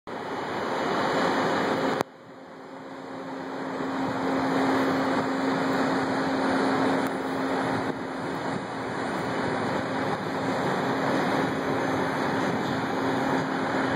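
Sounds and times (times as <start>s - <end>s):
low hum: 0.1s - 13.9s
rushing background noise: 0.1s - 13.9s.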